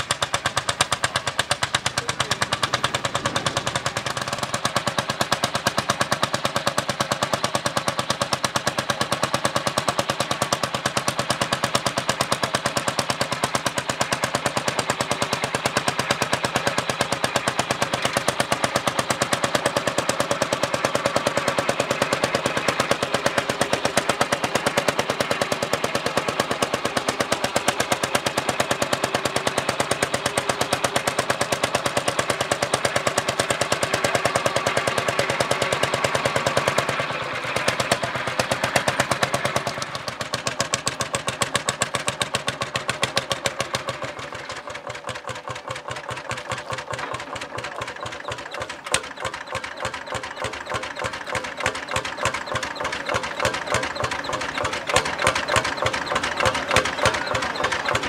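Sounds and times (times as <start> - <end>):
tractor engine popping: 0.0 - 58.0.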